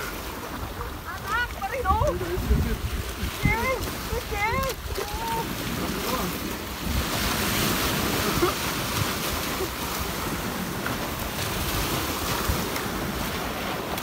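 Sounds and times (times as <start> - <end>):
waves breaking on rocks: 0.0 - 14.0
wind buffeting microphone: 0.0 - 14.0.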